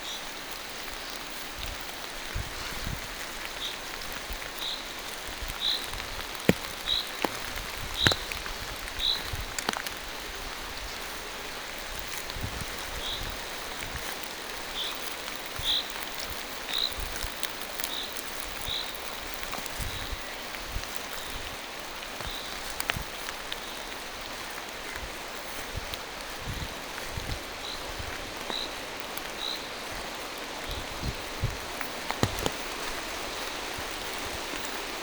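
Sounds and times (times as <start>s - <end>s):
rain falling through trees: 0.0s - 35.0s
sharp water drips: 0.1s - 35.0s.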